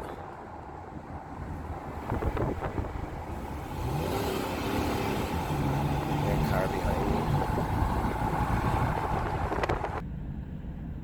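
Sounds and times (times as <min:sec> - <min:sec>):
car engine running: 0:00.0 - 0:10.2
wind rumble: 0:00.0 - 0:11.0.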